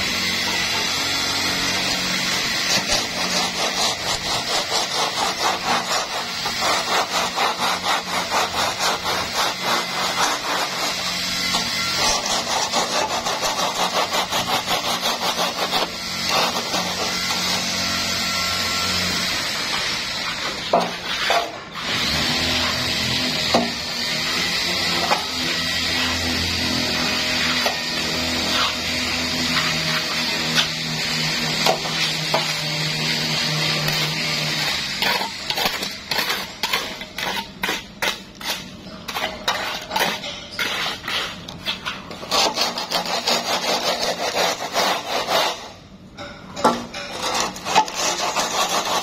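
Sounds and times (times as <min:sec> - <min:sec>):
trowel scraping wet concrete: 0:00.0 - 0:45.8, 0:46.7 - 0:49.0.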